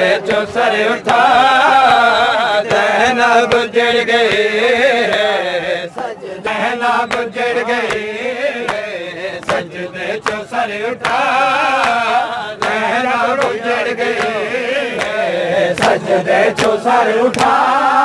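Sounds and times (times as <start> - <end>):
men chanting a lament: 0.0 - 18.0.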